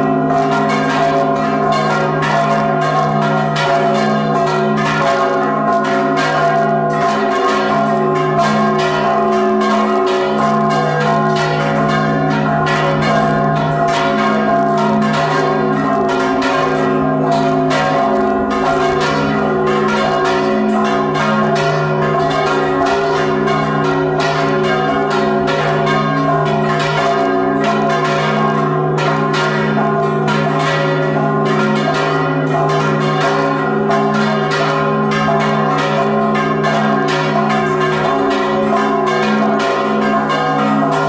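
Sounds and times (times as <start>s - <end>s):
church bells ringing rapidly: 0.0s - 41.0s
large bell humming: 0.0s - 41.0s.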